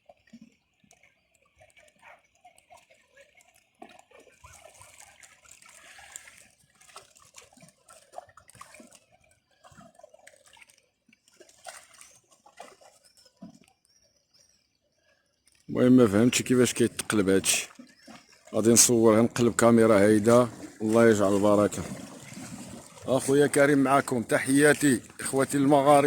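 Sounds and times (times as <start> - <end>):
sea water lapping and splashing: 0.0 - 13.7, 15.7 - 26.0.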